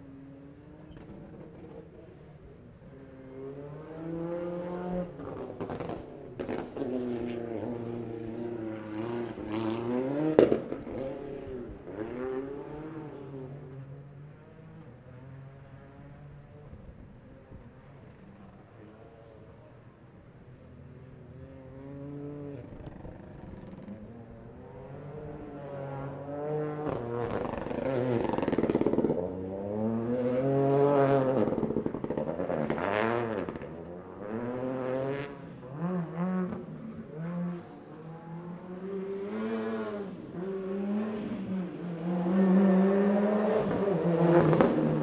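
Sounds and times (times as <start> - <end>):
rally car engines at full throttle: 0.0 - 45.0.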